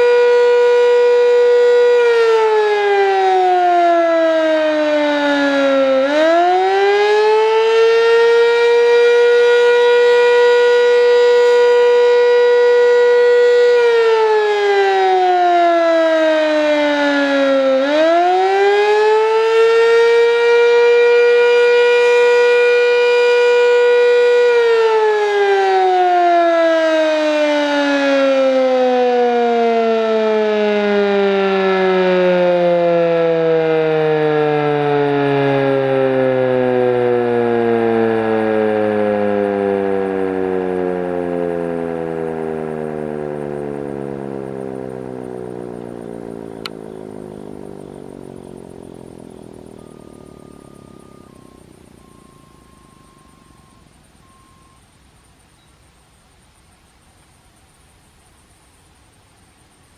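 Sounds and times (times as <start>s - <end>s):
warning siren wailing: 0.0s - 56.1s.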